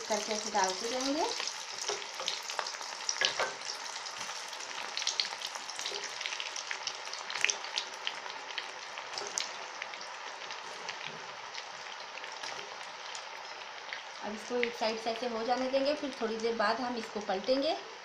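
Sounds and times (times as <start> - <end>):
food deep-frying in hot oil: 0.0 - 18.0.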